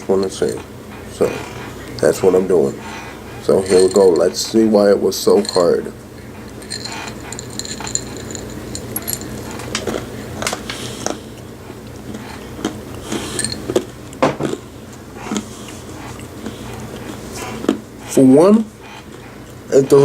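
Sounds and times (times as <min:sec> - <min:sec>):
person chewing dry kibble: 0:00.0 - 0:20.0.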